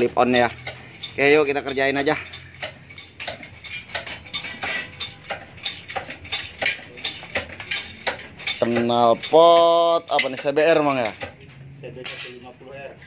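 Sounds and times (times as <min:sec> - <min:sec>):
metal tools clinking and tapping: 0:00.0 - 0:13.0.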